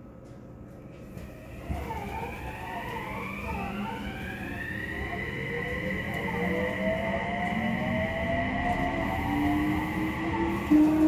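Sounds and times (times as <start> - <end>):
electric train inverter whine: 0.0 - 11.0.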